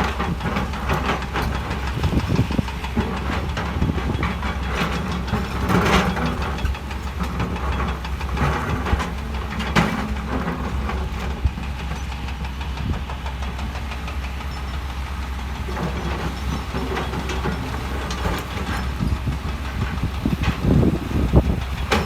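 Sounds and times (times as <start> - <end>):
knocks and clatter: 0.0 - 14.4, 15.6 - 22.0
diesel engine deep rumble: 0.0 - 22.0.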